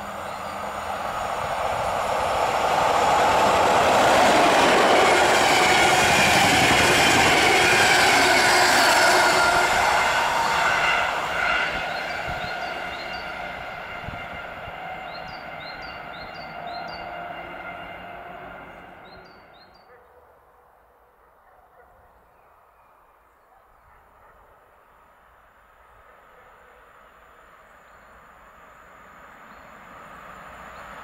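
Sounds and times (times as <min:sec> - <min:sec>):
train passing at speed: 0:00.0 - 0:19.9, 0:23.9 - 0:31.0.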